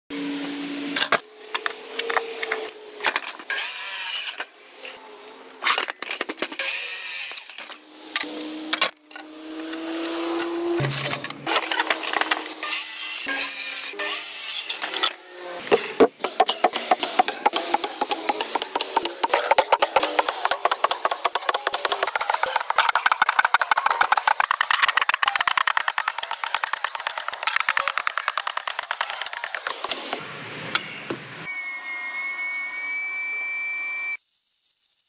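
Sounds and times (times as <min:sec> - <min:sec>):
saw cutting wooden boards: 0:01.2 - 0:30.2.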